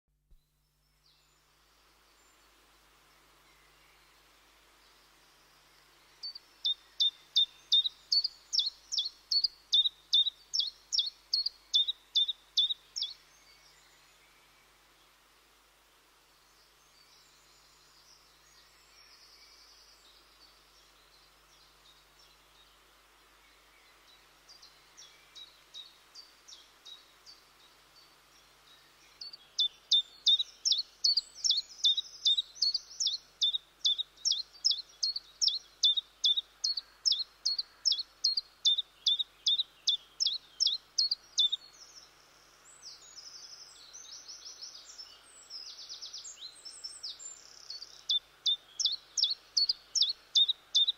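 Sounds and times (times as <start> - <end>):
small birds twittering: 0.6 - 15.2, 16.4 - 50.9.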